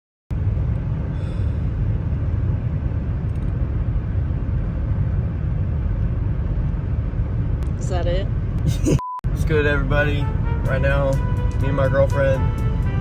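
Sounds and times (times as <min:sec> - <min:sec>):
car driving road rumble: 0:00.3 - 0:13.0.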